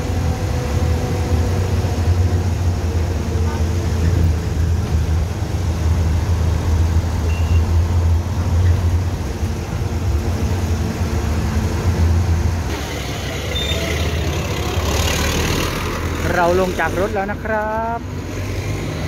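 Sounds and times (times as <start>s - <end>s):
bus engine droning: 0.0s - 19.0s
road and traffic noise: 0.0s - 19.0s.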